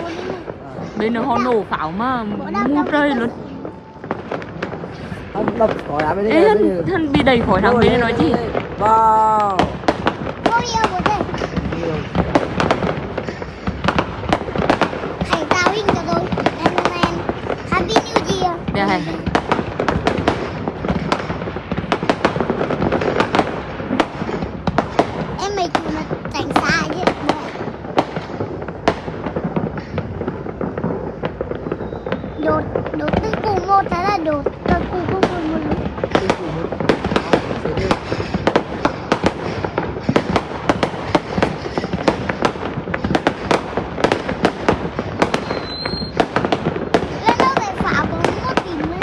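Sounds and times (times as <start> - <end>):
continuous noise: 0.0 - 49.0
fireworks bangs: 0.0 - 49.0.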